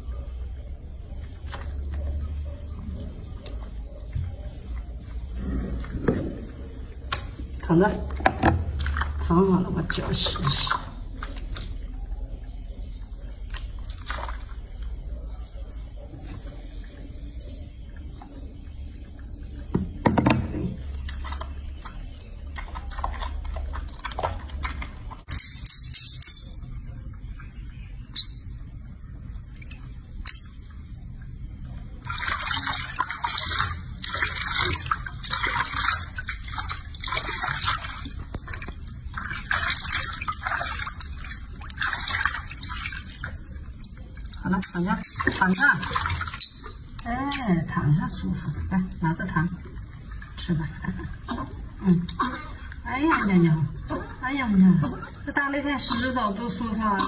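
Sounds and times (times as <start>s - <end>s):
water splashing in a washbasin: 0.0s - 57.0s.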